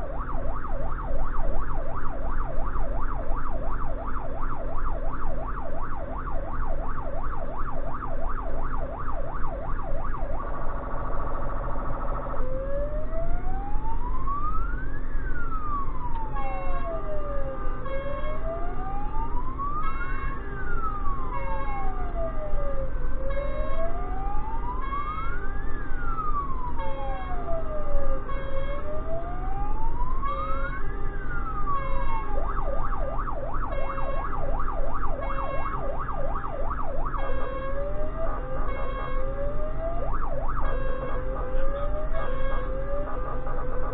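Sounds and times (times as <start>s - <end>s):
electronic siren yelp and wail: 0.0s - 43.9s
engine and road rumble: 0.0s - 43.9s.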